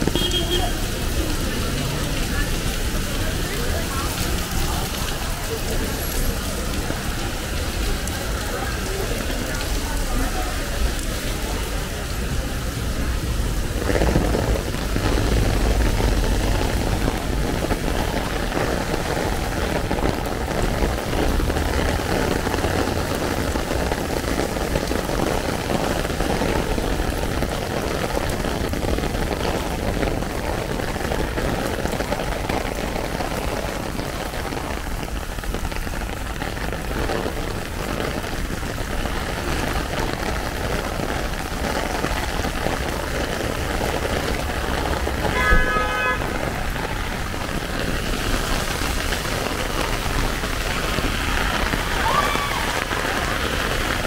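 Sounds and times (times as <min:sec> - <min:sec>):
heavy rain on an umbrella: 0:00.0 - 0:54.0.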